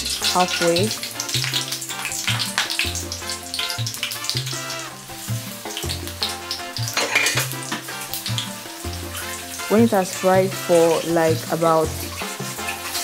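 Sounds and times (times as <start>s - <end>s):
background music with bass line: 0.0s - 13.0s
bread sizzling in hot oil: 0.0s - 13.0s.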